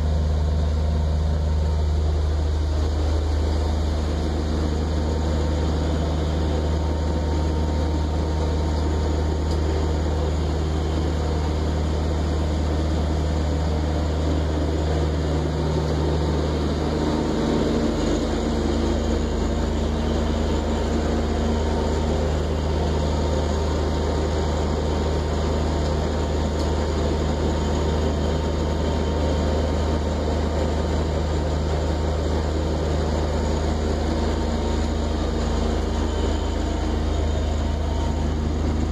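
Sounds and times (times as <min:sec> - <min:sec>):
boat engine drone: 0:00.0 - 0:38.9.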